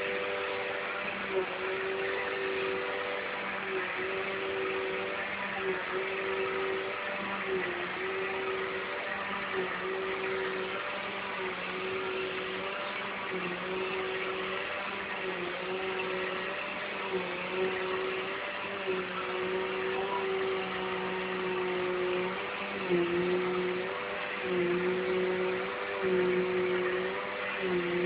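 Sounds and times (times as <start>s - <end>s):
vacuum cleaner motor hum: 0.0s - 28.0s.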